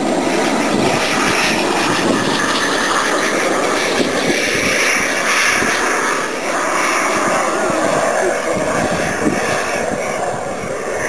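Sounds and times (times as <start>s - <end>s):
model jet engine at full power: 0.0s - 11.0s.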